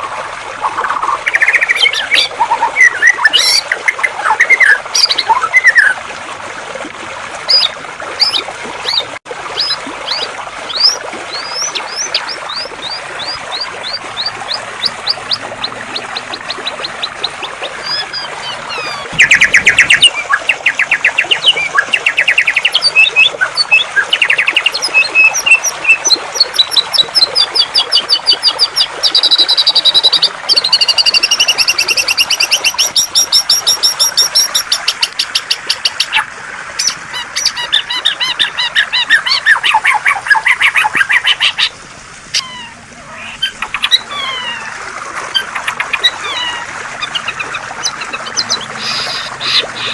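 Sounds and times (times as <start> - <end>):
flowing water hiss: 0.0 - 49.9.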